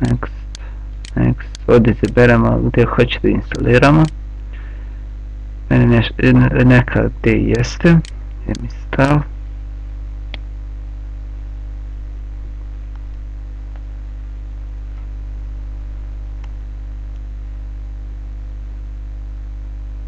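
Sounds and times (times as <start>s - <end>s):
electrical mains hum: 0.0s - 20.0s
microphone hiss: 0.0s - 20.0s.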